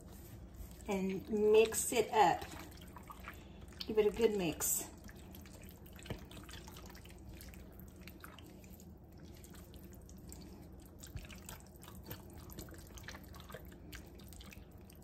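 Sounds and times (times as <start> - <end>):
spatula stirring wet mixture: 0.0 - 15.0.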